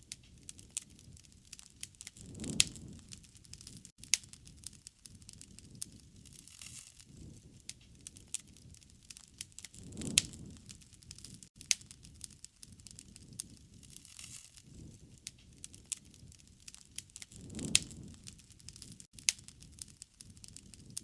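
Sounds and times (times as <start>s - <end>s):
fire popping: 0.0s - 21.0s
wood fire crackling: 0.0s - 21.0s.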